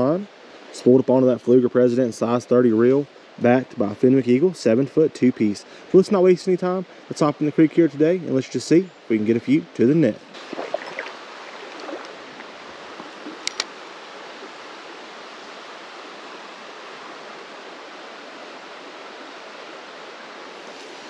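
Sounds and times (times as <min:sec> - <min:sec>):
creek flowing: 0:00.0 - 0:21.0.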